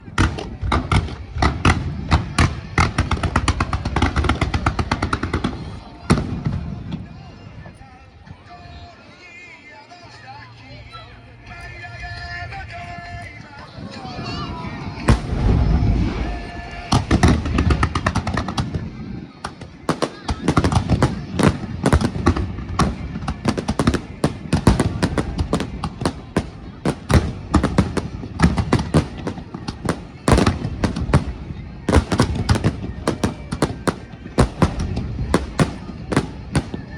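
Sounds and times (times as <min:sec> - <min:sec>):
fireworks bursting: 0:00.0 - 0:07.1, 0:13.9 - 0:36.9.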